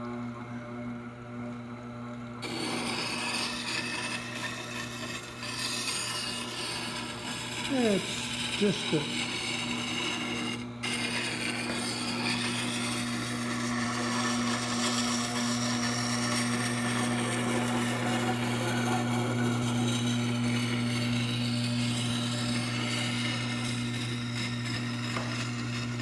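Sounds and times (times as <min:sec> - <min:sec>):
grinder motor hum: 0:00.0 - 0:26.0
metal scraping on grinding stone: 0:02.4 - 0:26.0.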